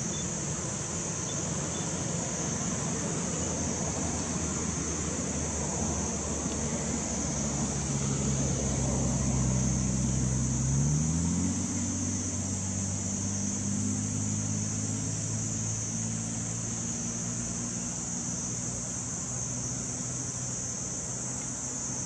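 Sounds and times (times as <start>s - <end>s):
high-pitched hiss: 0.0s - 22.0s
vehicle engine running: 0.0s - 22.0s.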